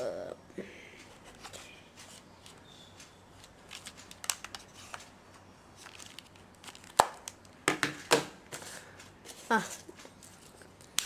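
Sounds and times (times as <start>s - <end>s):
plastic rustling: 1.2s - 11.0s.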